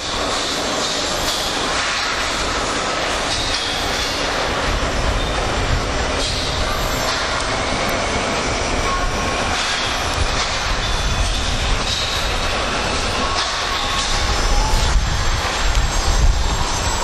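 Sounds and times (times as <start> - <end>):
high metallic squeals: 0.1 - 17.0.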